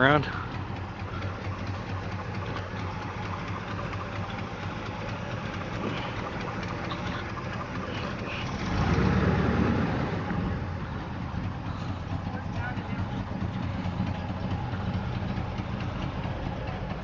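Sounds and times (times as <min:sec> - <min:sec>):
pickup engine idling rough: 0:00.0 - 0:17.0.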